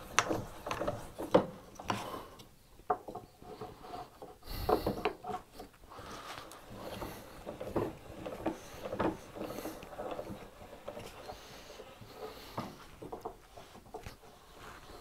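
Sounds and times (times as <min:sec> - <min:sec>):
parts knocking and clicking: 0:00.0 - 0:05.8, 0:06.4 - 0:14.4.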